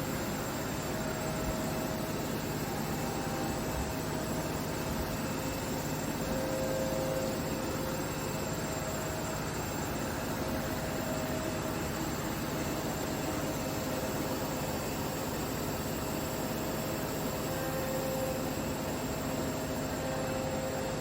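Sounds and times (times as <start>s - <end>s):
faint motor whine: 0.0s - 21.0s.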